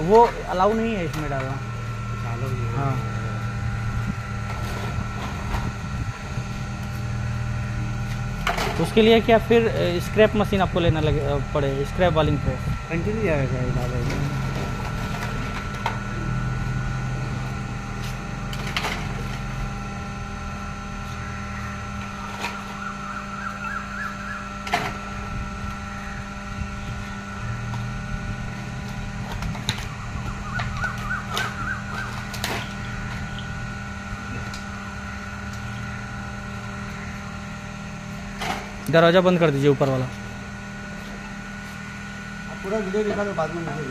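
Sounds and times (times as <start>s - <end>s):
hydraulic power pack humming: 0.0s - 43.9s.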